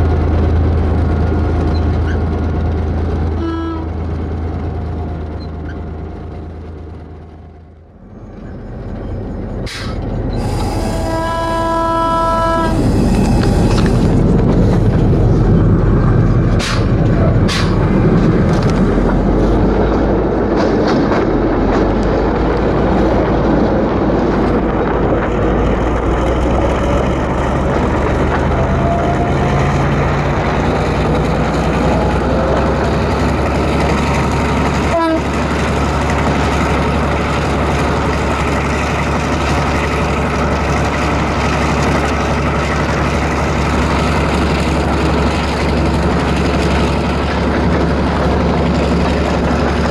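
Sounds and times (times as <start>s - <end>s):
diesel engine drone: 0.0s - 49.9s
wheels on rail: 0.0s - 49.9s.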